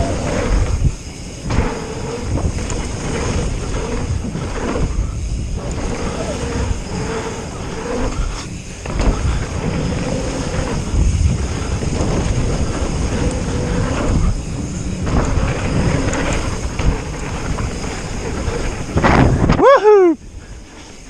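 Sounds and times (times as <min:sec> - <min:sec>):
bike knocks and rattles: 0:00.0 - 0:19.7
bike tyre rumble on dirt: 0:00.0 - 0:21.0
wind on microphone: 0:00.0 - 0:21.0.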